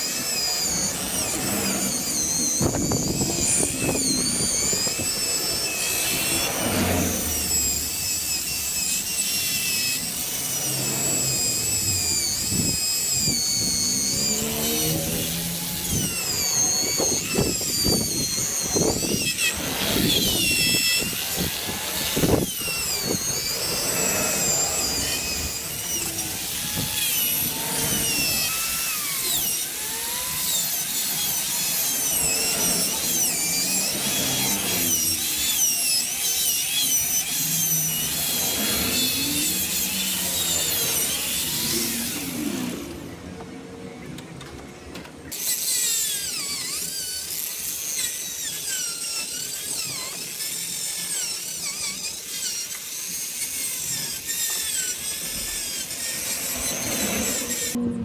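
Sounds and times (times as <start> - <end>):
power tool whining: 0.0 - 58.0.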